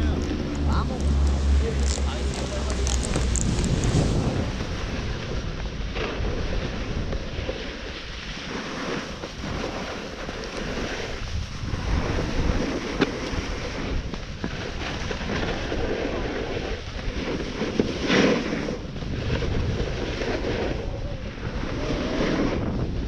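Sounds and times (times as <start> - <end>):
snowboard scraping over snow: 0.0 - 23.0
wind noise on microphone: 0.0 - 23.0.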